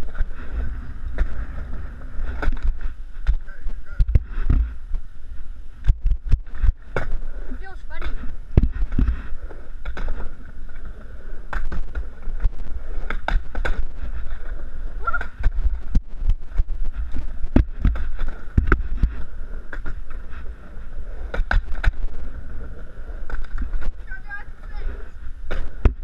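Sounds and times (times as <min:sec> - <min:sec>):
skateboard wheels rolling: 0:00.0 - 0:26.0.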